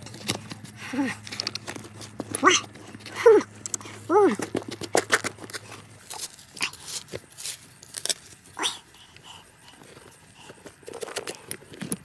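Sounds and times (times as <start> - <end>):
trowel scraping soil: 0.0 - 12.0.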